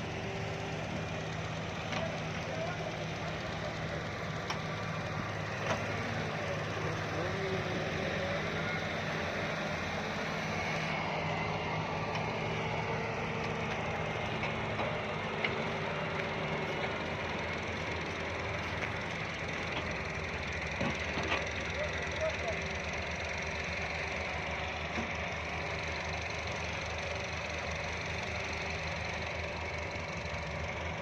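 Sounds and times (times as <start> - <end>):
heavy machine diesel engines: 0.0 - 31.0.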